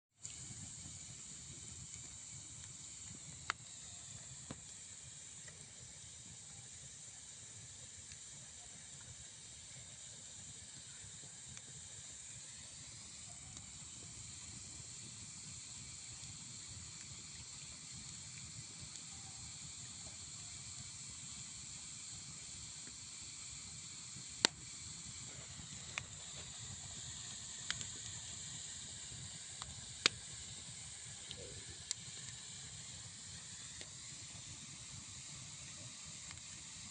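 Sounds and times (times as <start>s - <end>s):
campfire hissing: 0.1s - 36.9s
fire crackling pops: 0.2s - 36.9s.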